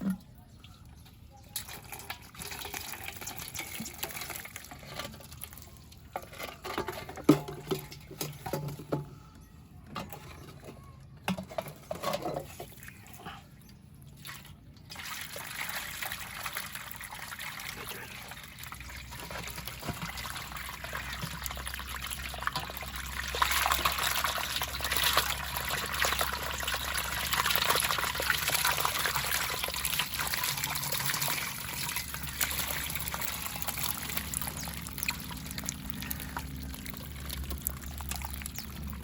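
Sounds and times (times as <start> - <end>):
water trickling and splashing: 0.0 - 8.8, 11.8 - 39.0.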